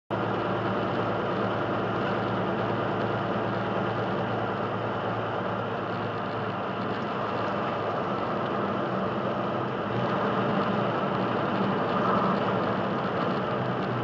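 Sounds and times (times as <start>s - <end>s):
road and wind noise: 0.1s - 14.0s
truck diesel engine running: 0.1s - 14.0s.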